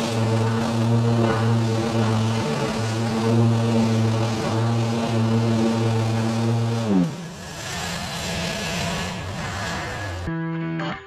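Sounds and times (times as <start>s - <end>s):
small gasoline engine running: 0.0s - 10.3s.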